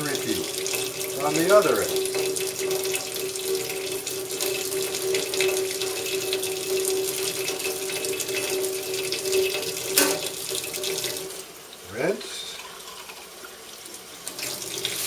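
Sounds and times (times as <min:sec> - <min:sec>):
tap water running into sink: 0:00.0 - 0:11.8, 0:12.6 - 0:15.0.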